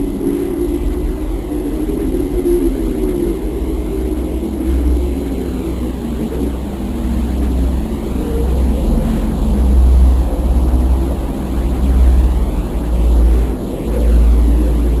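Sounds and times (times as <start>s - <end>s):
faint wavering hum: 0.0s - 15.0s
low steady drone: 0.0s - 15.0s.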